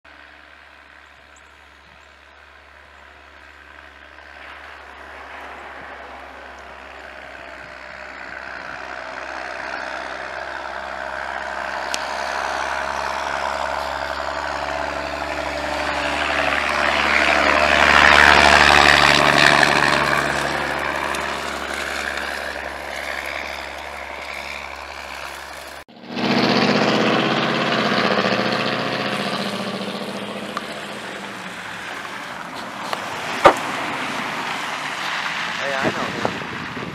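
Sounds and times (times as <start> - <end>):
pickup truck engine running: 0.1 - 36.9
truck engine and tyres passing: 0.1 - 36.9.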